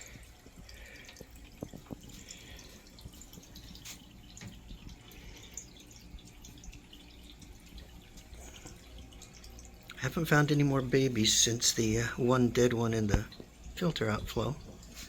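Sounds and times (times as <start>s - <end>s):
small waterfall trickling: 0.0s - 15.0s
water dripping: 0.0s - 15.0s.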